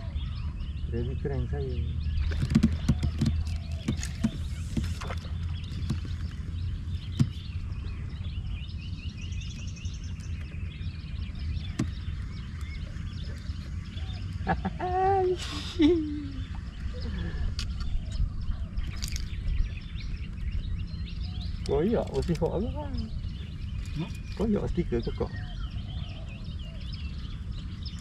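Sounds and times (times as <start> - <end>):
birds chirping and calling: 0.0 - 28.0
low outdoor rumble: 0.0 - 28.0.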